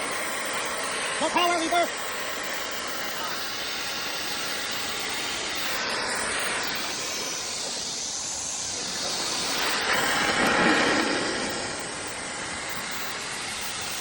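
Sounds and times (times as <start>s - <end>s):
steam and water hissing: 0.0s - 14.0s.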